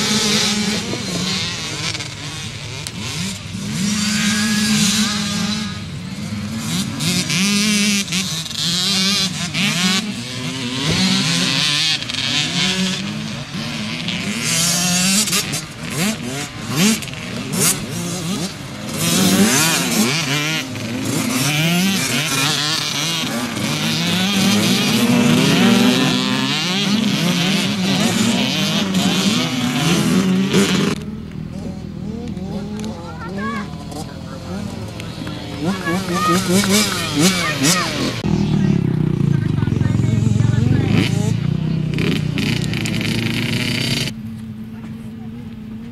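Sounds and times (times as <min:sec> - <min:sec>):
racing motorcycles revving: 0:00.0 - 0:45.9.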